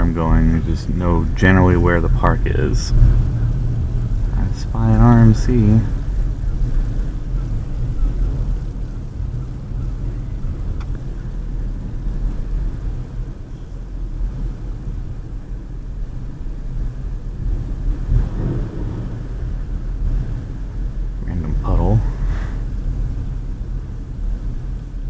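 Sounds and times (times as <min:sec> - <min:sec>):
car rumble from inside cabin: 0:00.0 - 0:25.0.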